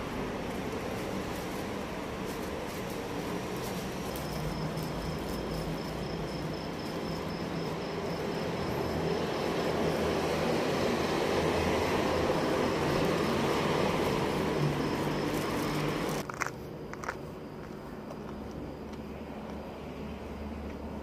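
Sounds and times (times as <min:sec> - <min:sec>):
cricket chirps: 0:00.0 - 0:21.0
vehicle engine and tyre noise: 0:00.0 - 0:21.0.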